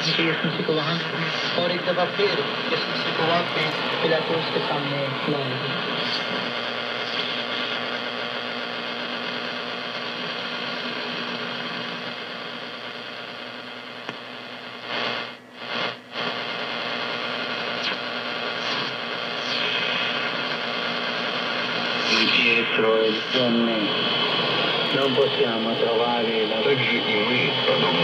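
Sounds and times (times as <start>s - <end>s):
radio static and hiss: 0.0s - 28.0s.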